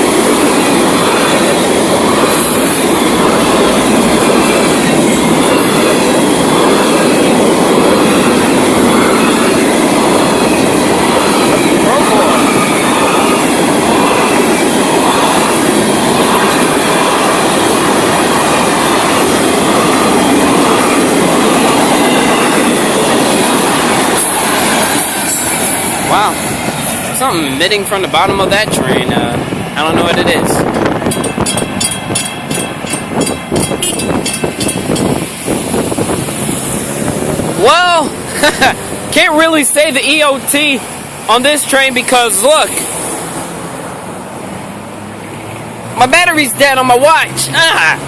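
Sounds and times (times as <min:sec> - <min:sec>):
freight train wheels rumbling: 0:00.0 - 0:48.0
rail clickety-clack: 0:00.0 - 0:48.0.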